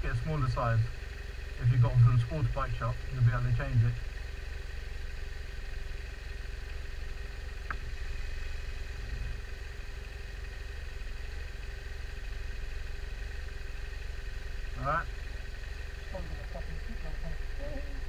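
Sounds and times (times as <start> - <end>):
motorcycle engines idling: 0.0 - 18.0.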